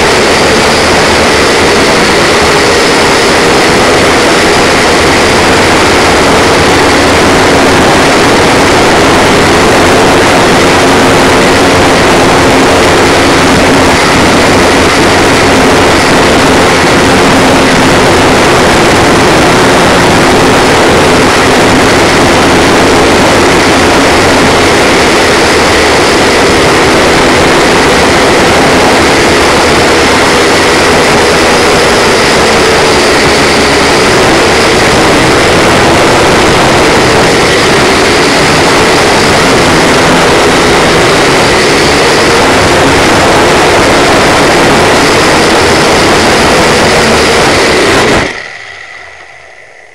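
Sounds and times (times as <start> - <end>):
quadcopter propellers buzzing: 0.0 - 49.9.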